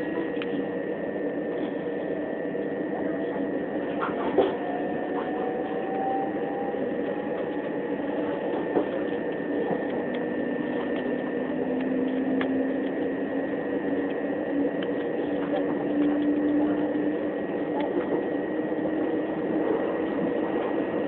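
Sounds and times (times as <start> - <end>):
high electric whine: 0.0 - 21.0
rising low whine: 0.0 - 21.0
train interior rumble: 0.0 - 21.0.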